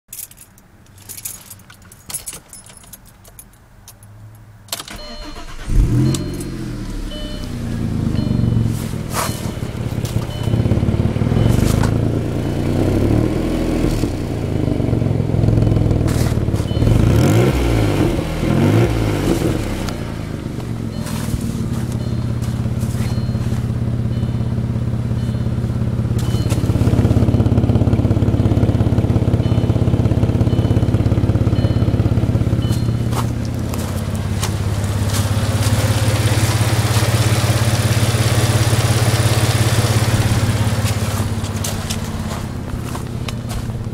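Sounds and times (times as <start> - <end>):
car engine revving unevenly: 5.2 - 43.9.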